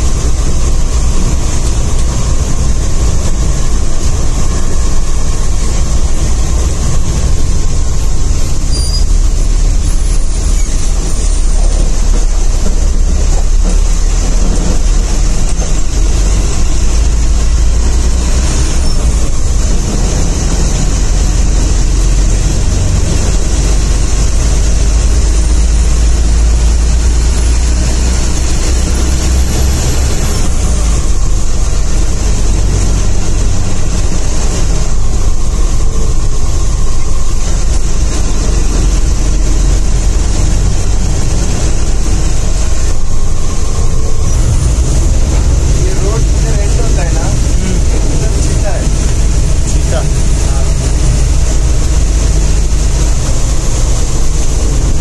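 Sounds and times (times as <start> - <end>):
bus engine rumble: 0.0 - 55.0.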